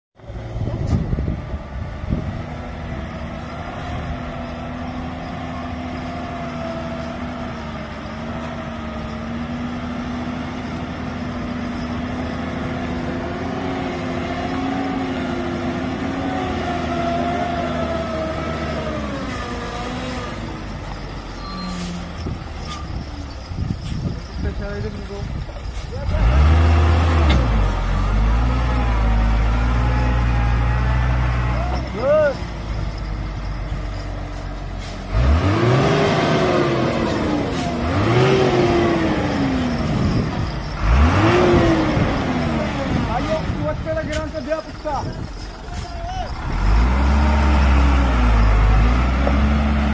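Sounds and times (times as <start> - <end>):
heavy truck diesel engine: 0.2 - 49.9.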